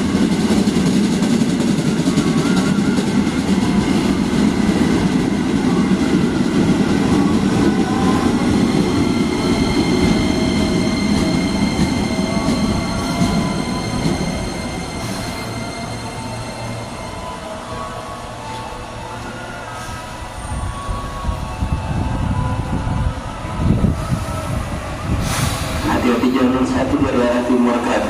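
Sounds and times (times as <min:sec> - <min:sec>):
train wheels rumbling on rails: 0:00.0 - 0:28.0
high-pitched train tones: 0:01.3 - 0:28.0.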